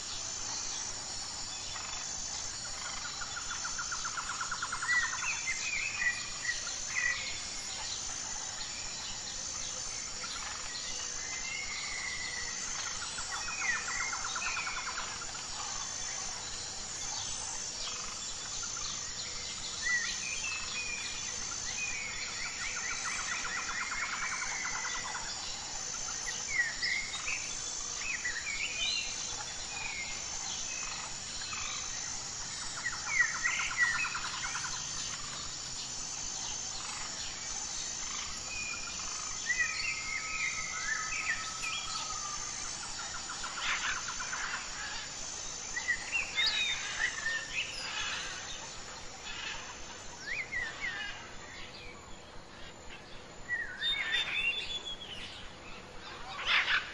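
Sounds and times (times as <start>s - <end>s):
birds singing and chirping: 0.0s - 56.9s.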